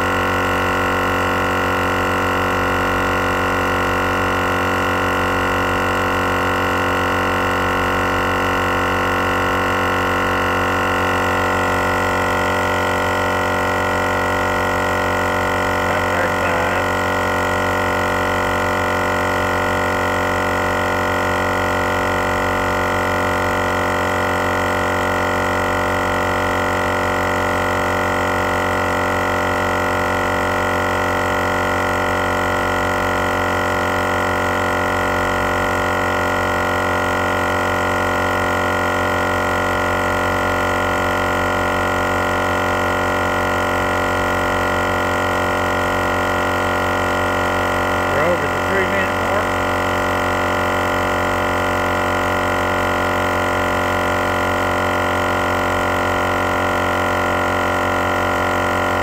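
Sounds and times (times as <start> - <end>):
air compressor droning: 0.0 - 59.0.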